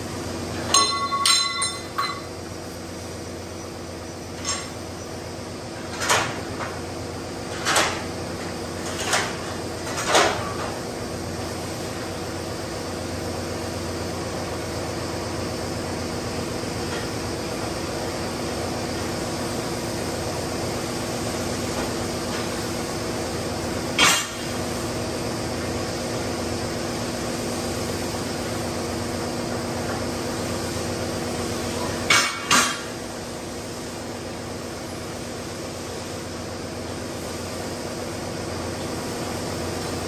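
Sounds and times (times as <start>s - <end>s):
factory machinery hum: 0.0s - 40.0s.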